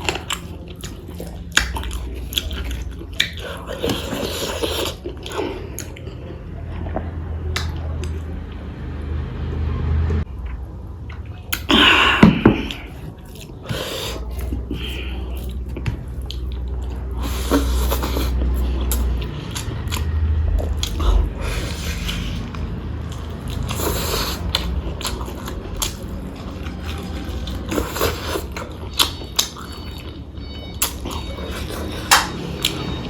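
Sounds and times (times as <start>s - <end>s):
person chewing food: 0.0s - 8.3s, 10.4s - 33.0s.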